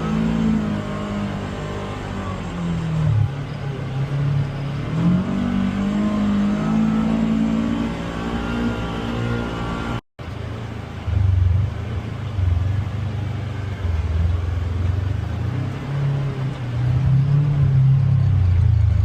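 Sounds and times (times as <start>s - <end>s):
utility vehicle engine rumbling: 0.0s - 19.0s.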